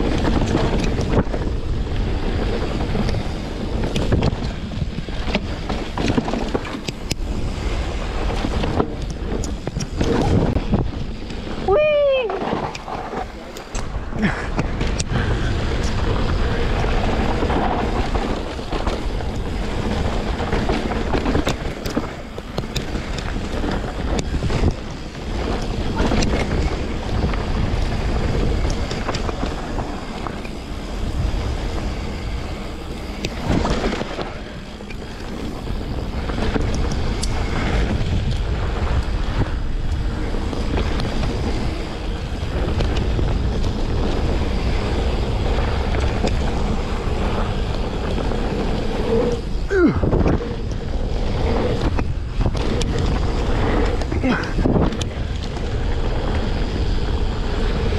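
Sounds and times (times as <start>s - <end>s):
bike clicks and rattles: 0.0s - 57.9s
bike tyres rolling on dirt: 0.0s - 57.9s
wind buffeting microphone: 0.0s - 57.9s.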